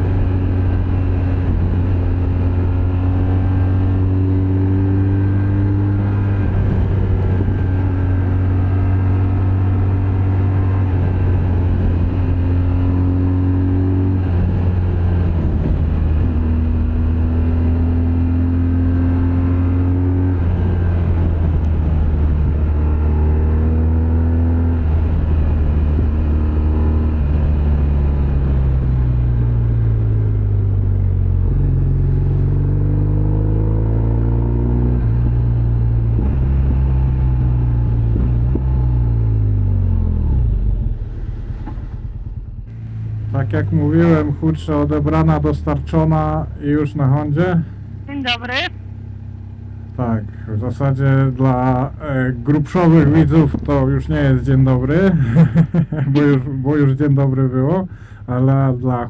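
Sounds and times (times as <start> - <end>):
motorcycle engine revving: 0.0 - 58.2
wind and road rumble: 0.0 - 59.0.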